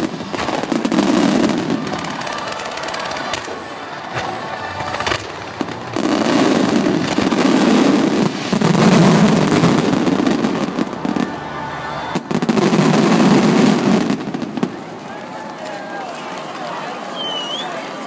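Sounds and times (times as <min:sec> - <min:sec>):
fireworks launching and bursting: 0:00.0 - 0:18.0.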